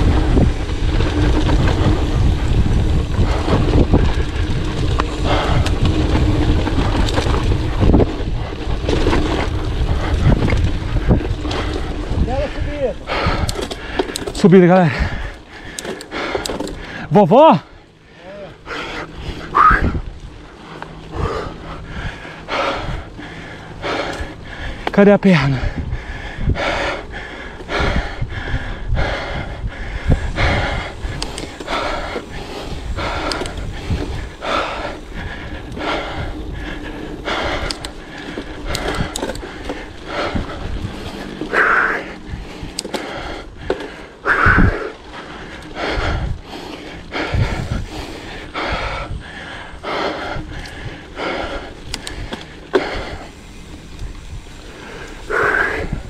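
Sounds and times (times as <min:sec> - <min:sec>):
low rumble: 0:00.0 - 0:14.3, 0:14.9 - 0:56.0
heavy rhythmic panting: 0:00.0 - 0:17.1, 0:20.6 - 0:56.0
heavy laboured breathing: 0:00.0 - 0:56.0.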